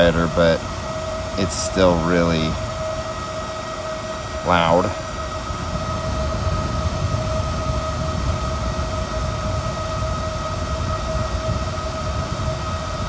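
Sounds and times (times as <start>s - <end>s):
cooling fan whining: 0.0s - 13.0s
low fan rumble: 0.0s - 13.0s.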